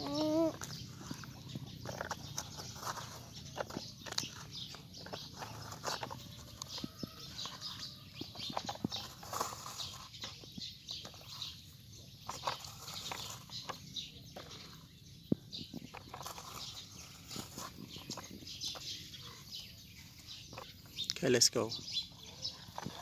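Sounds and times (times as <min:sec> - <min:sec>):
toy excavator scraping dirt: 0:00.0 - 0:20.9, 0:21.9 - 0:23.0.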